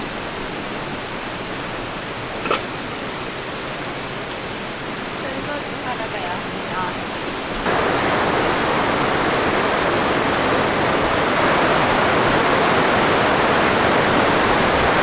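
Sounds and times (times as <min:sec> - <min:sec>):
river rushing over rapids: 0:00.0 - 0:15.0.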